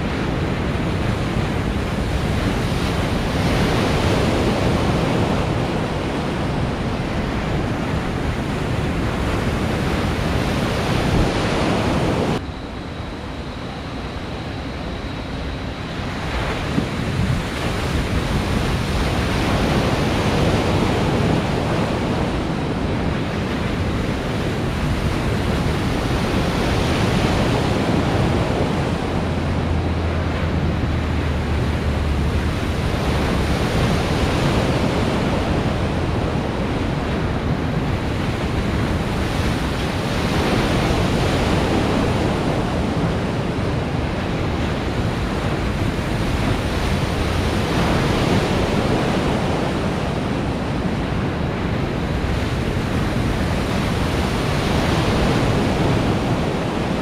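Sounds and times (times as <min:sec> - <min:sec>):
waves rushing and breaking: 0:00.0 - 0:57.0.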